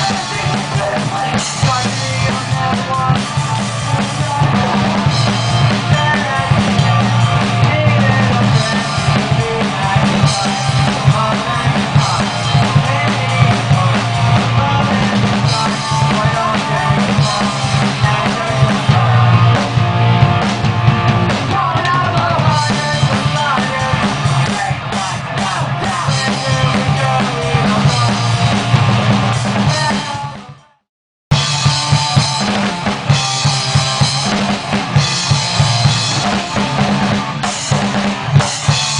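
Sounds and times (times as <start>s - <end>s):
drum kit kick and snare: 0.0s - 30.6s, 31.3s - 38.9s
band playing: 0.0s - 38.9s.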